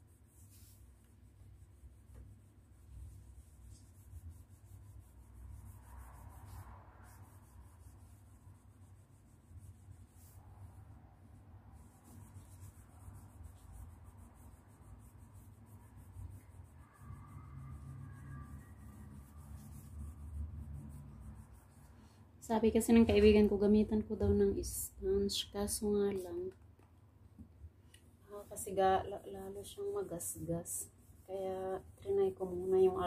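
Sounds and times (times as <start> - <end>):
cloth rubbing on a wall: 0.0 - 22.0, 28.3 - 33.0.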